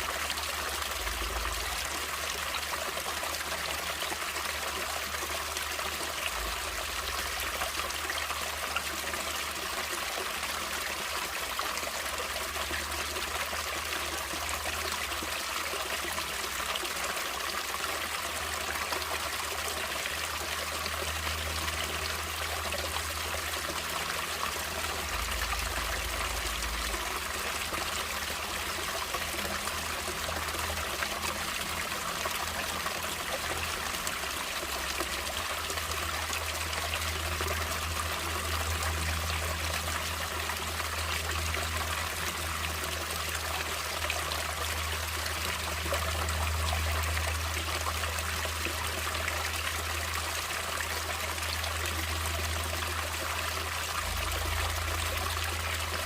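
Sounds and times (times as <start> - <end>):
running water trickling: 0.0 - 56.0.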